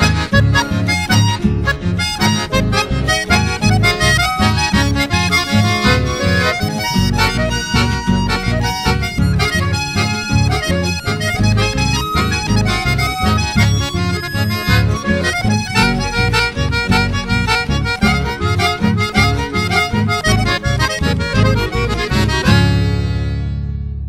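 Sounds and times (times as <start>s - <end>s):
accordion melody: 0.0s - 24.0s
pulsing bass beat: 0.0s - 24.0s.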